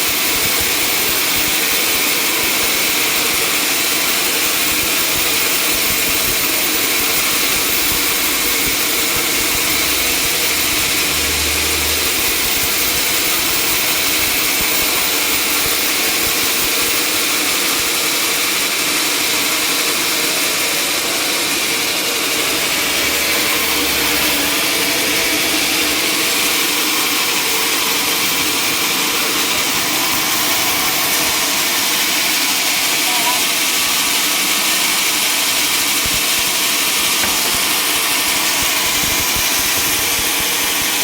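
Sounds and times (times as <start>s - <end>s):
sawmill machinery running: 0.0s - 41.0s.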